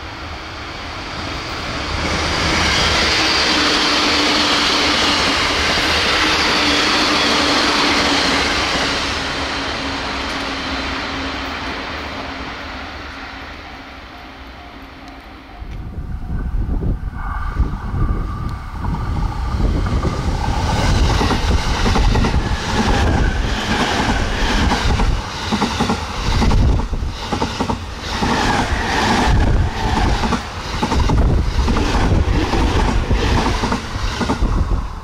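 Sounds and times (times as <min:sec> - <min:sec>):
train passing at speed: 0:00.0 - 0:35.0.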